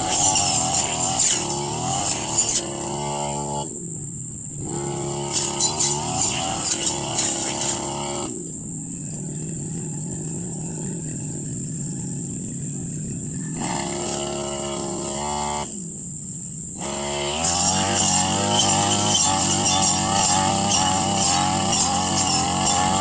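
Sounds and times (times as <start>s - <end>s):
brush cutter engine: 0.0s - 23.0s.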